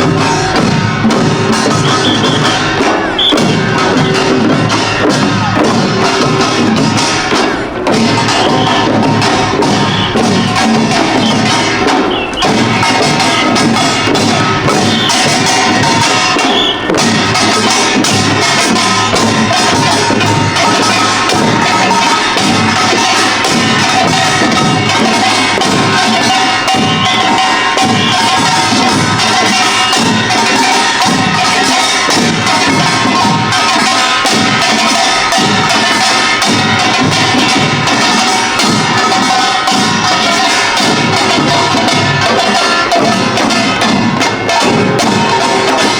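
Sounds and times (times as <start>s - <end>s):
drums: 0.0s - 45.9s
small gongs clanging: 0.0s - 45.9s.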